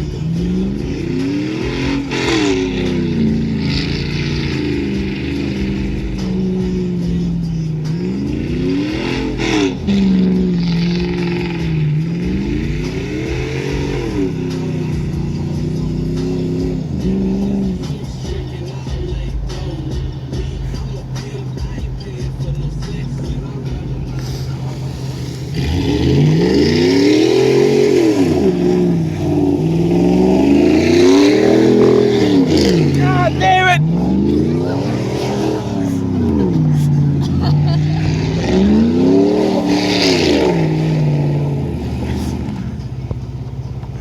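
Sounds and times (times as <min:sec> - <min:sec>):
exhaust revving: 0:00.0 - 0:44.0.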